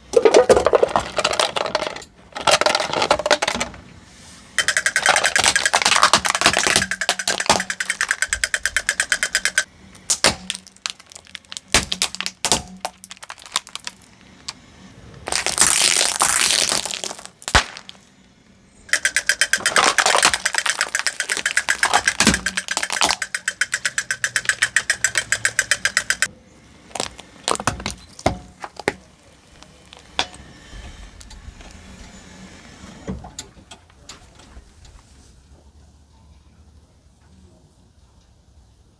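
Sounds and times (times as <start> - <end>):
plastic toys crunching under tyre: 0.0 - 18.2, 18.9 - 32.0.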